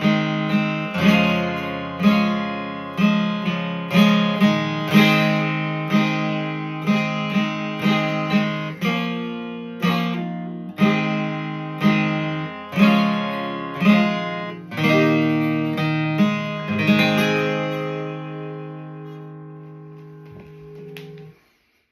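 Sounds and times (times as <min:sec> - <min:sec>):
acoustic guitar strumming chords: 0:00.0 - 0:21.8.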